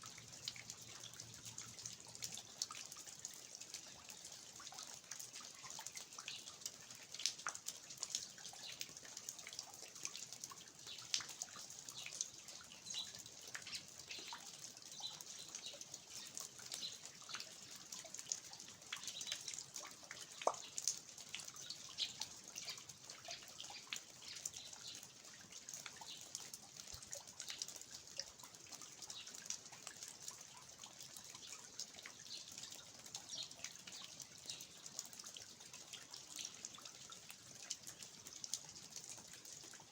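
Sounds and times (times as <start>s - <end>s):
rain falling: 0.0s - 39.9s
water dripping from eaves: 0.0s - 39.9s.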